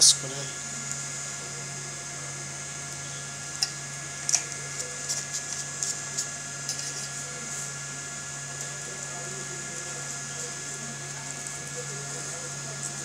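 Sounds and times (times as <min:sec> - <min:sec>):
inverter humming: 0:00.0 - 0:13.0.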